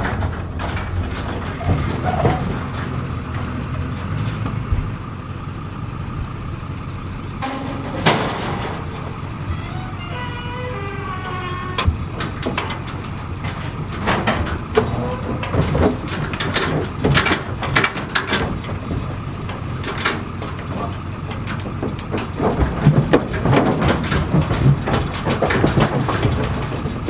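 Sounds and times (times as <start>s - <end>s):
metallic clanks and rattles: 0.0s - 27.0s.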